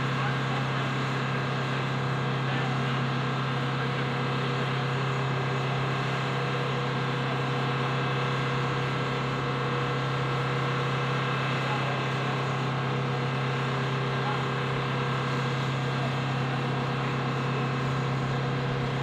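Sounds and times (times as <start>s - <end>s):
turbine machinery droning: 0.0s - 19.0s.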